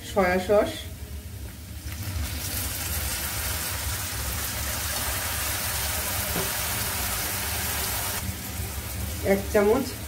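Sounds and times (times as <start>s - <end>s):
vegetables sizzling in a wok: 0.0s - 10.0s.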